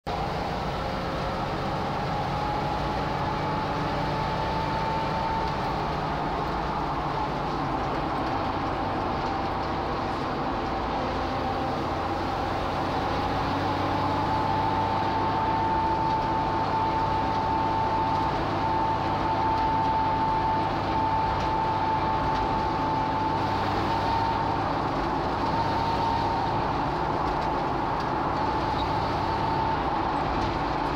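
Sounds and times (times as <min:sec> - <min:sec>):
road and engine noise: 0:00.0 - 0:30.9
high whine from rear axle: 0:00.1 - 0:30.9.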